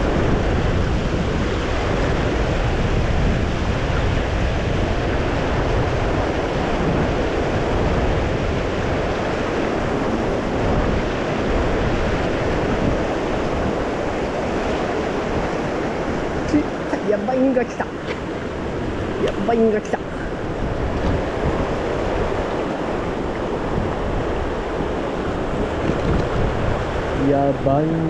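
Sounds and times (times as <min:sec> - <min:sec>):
river water rushing: 0:00.0 - 0:28.0
wind rumbling on microphone: 0:00.0 - 0:28.0.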